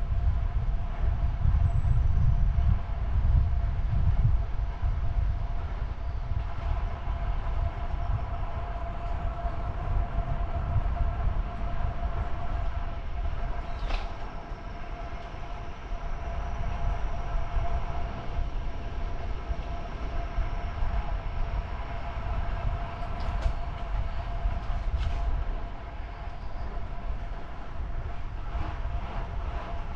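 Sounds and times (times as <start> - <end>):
constant multi-tone hum: 0.0 - 29.9
wind rumbling on microphone: 0.0 - 29.9
road noise: 2.6 - 29.9.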